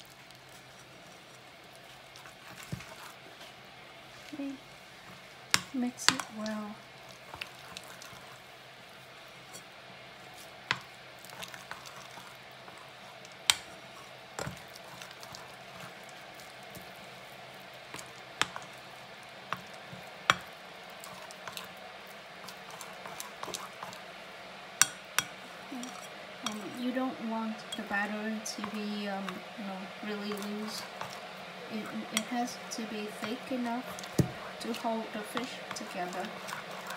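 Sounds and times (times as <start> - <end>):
batter being stirred: 0.0 - 36.9.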